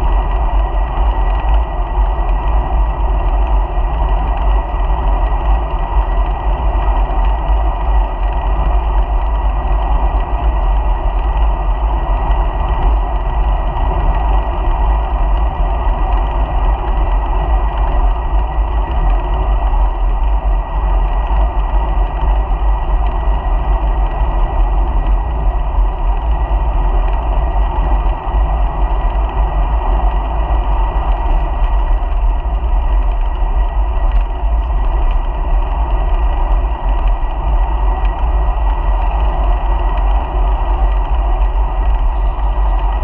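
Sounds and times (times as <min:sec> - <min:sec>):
thin constant whine: 0:00.0 - 0:43.0
wind buffeting microphone: 0:00.0 - 0:43.0.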